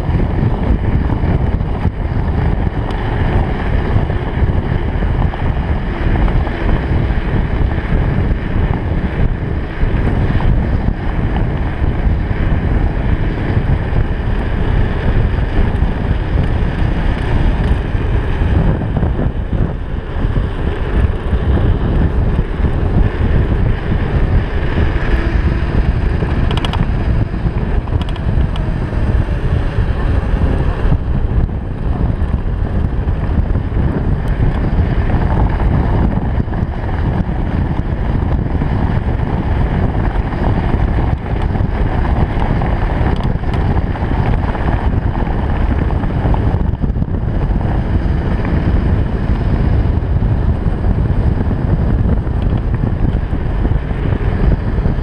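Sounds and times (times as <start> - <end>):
tyres rumbling on asphalt: 0.0 - 55.0
wind buffeting microphone: 0.0 - 55.0.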